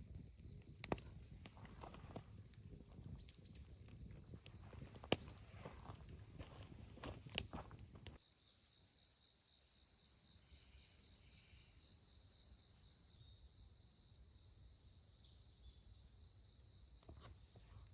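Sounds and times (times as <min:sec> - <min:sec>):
faint cricket chirping: 0:00.0 - 0:17.9.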